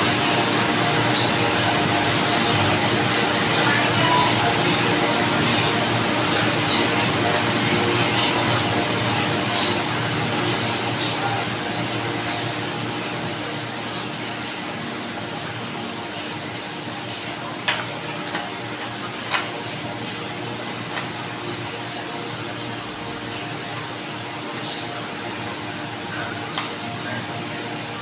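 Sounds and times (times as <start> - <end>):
electric fan whirring: 0.0 - 28.0.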